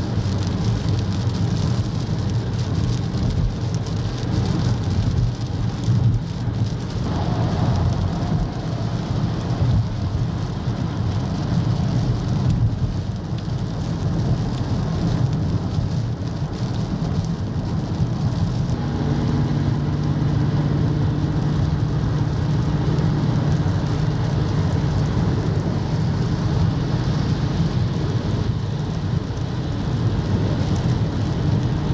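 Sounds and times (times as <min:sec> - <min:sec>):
heavy rain on car: 0:00.0 - 0:31.9
tyre and road rumble: 0:00.0 - 0:31.9.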